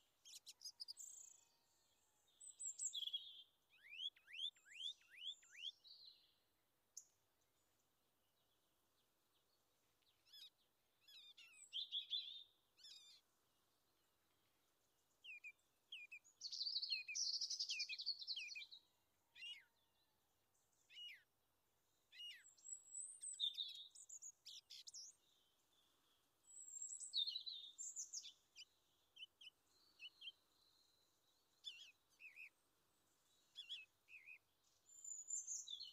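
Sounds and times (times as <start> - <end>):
small birds chirping and singing: 0.0 - 35.9.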